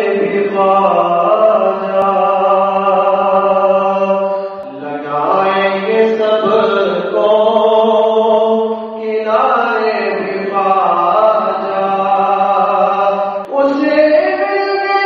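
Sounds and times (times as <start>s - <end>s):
chanted singing: 0.0s - 15.0s.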